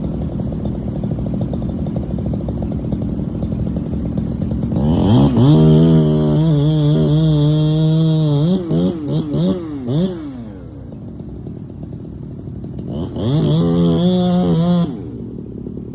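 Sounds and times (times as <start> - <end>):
chainsaw revving: 0.0 - 15.9.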